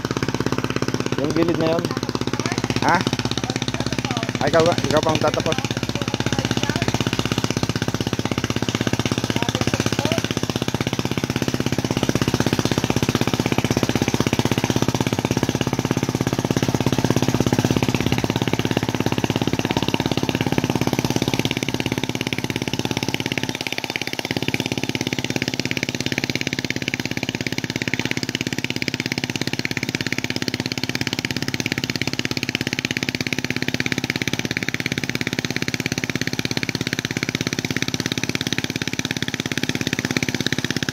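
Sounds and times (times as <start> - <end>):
tiller engine running: 0.0 - 40.9.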